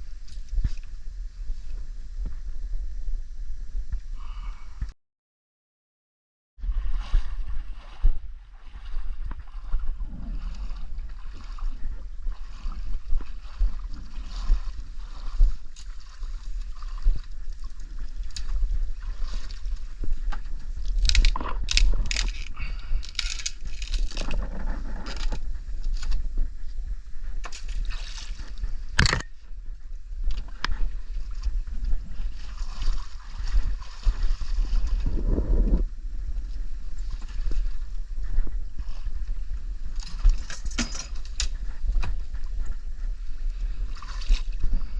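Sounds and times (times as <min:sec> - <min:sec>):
wind buffeting microphone: 0:00.0 - 0:04.9, 0:06.6 - 0:44.9.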